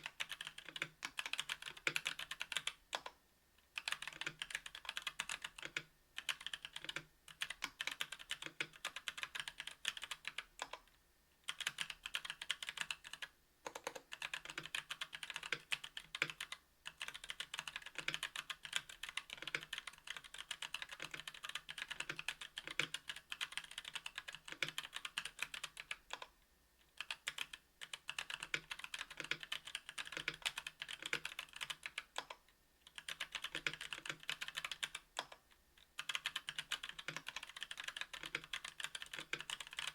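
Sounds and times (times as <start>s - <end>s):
mechanical keyboard typing: 0.0s - 3.2s, 3.8s - 10.9s, 11.5s - 26.3s, 27.0s - 39.9s.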